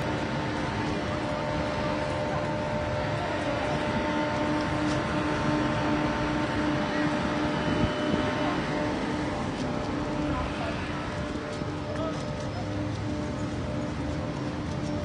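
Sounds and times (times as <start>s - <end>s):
traffic noise: 0.0s - 15.0s
vehicle engines droning: 0.0s - 15.0s.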